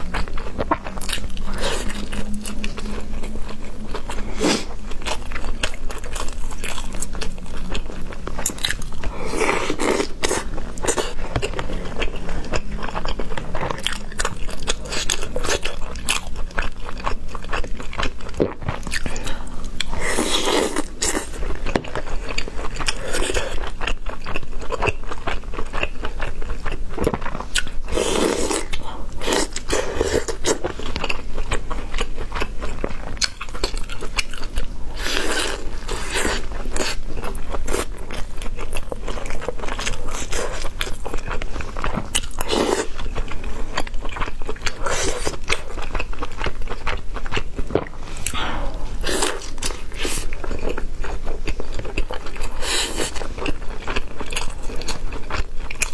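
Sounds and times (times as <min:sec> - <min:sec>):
person chewing and biting food: 0:00.0 - 0:55.9.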